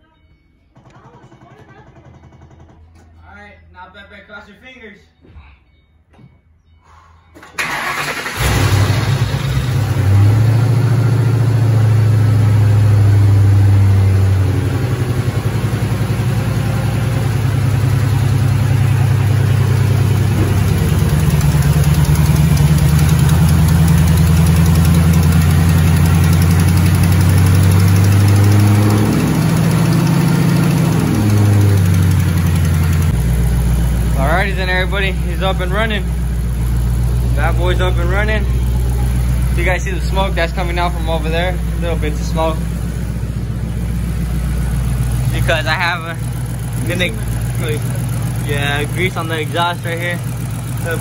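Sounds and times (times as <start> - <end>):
car engine cranking and idling: 0.7 - 3.2, 7.4 - 51.0.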